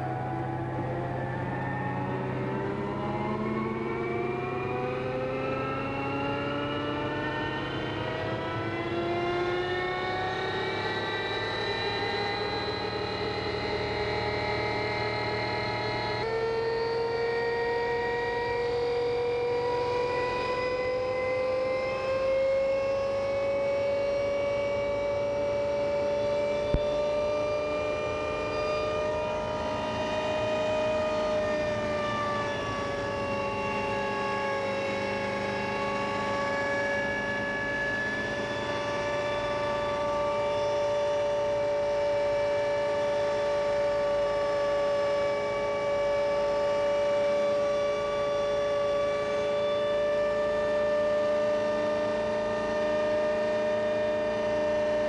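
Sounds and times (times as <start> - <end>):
helicopter engine whine: 0.0 - 55.0.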